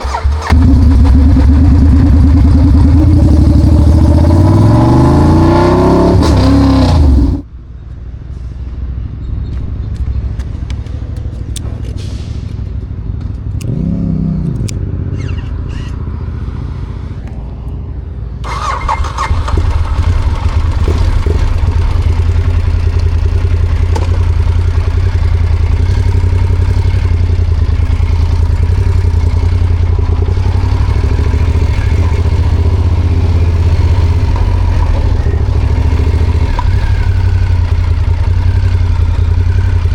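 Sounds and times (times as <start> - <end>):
motorcycle engine revving: 0.0 - 7.5, 13.3 - 17.8, 18.4 - 39.9.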